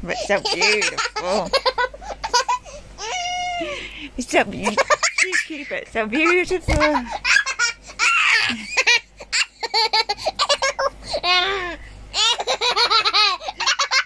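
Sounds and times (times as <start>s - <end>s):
girl giggling: 0.3s - 3.8s, 4.6s - 14.0s.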